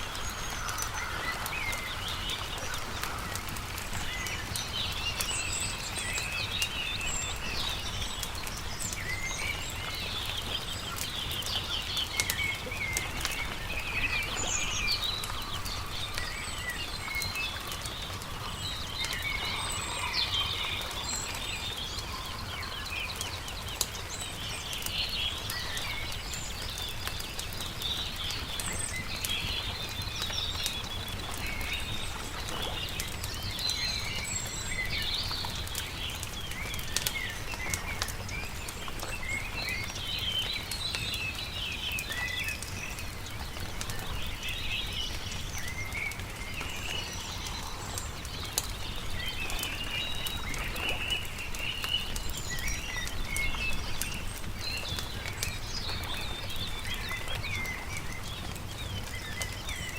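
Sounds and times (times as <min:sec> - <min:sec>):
crackling campfire: 0:00.0 - 0:59.9
songbirds chirping and singing: 0:00.0 - 0:59.9.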